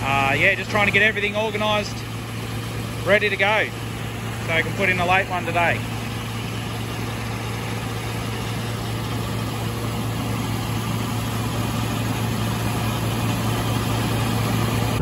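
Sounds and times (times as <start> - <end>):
grain auger humming: 0.0 - 15.0.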